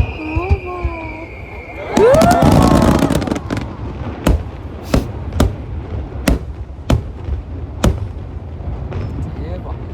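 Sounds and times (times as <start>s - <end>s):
fireworks bangs: 0.0s - 9.9s
fireworks crackling: 0.0s - 9.9s.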